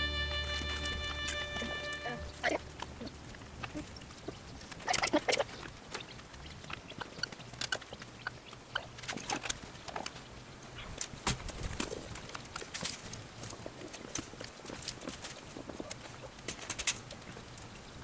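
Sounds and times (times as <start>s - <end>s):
chickens clucking: 1.6s - 17.8s.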